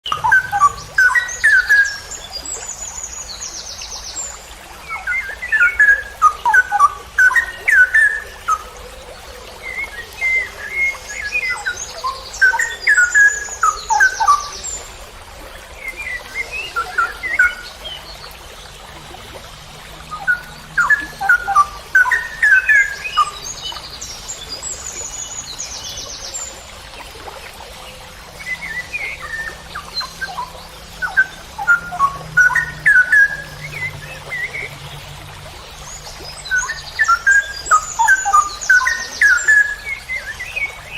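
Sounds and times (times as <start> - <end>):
bird singing bubbling whistles: 0.0 - 40.9.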